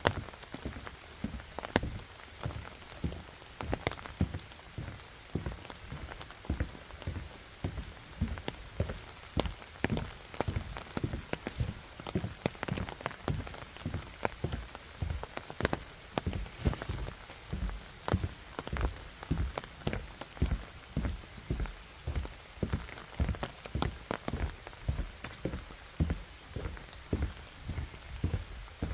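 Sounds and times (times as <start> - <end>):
rain falling: 0.0 - 28.9
raindrops ticking and thudding: 0.0 - 28.9.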